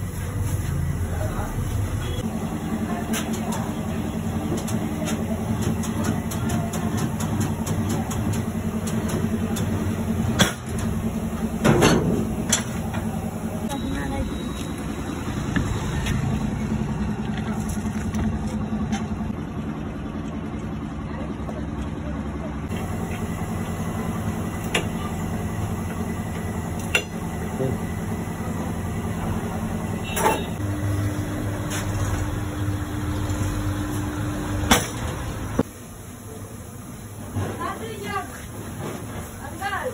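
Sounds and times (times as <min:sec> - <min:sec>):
machinery humming: 0:00.0 - 0:39.9.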